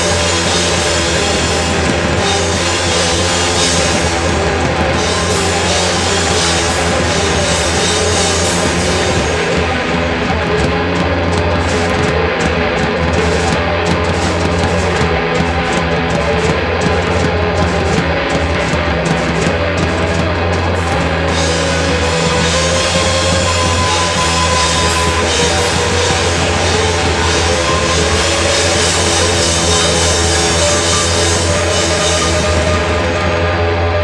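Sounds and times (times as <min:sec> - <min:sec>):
cymbals crashing: 0:00.0 - 0:34.0
rock band playing live: 0:00.0 - 0:34.0.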